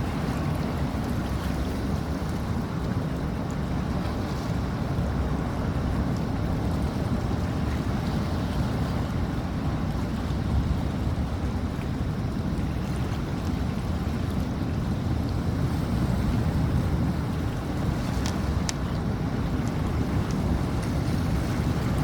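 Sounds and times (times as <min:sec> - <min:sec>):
rough sea waves: 0:00.0 - 0:22.0
wind rumbling on microphone: 0:00.0 - 0:22.0.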